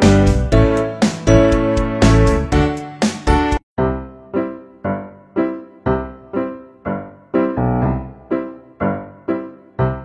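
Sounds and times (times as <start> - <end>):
background music chords: 0.0 - 10.0.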